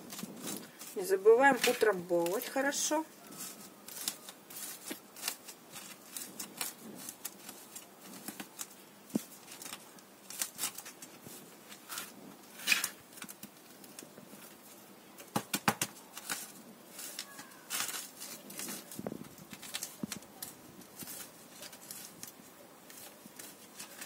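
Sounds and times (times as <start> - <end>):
hands rustling potting soil: 0.0 - 24.0.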